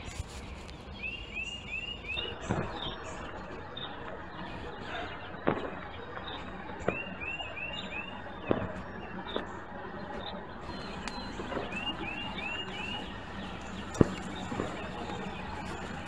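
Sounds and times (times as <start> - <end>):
outdoor background noise: 0.0 - 16.0
songbird singing: 0.0 - 16.0.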